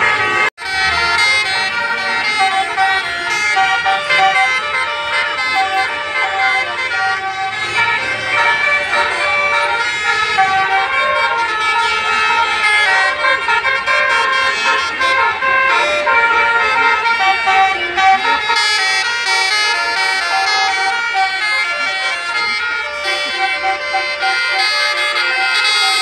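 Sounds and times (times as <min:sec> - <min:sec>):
musical air horn melody: 0:00.0 - 0:26.0.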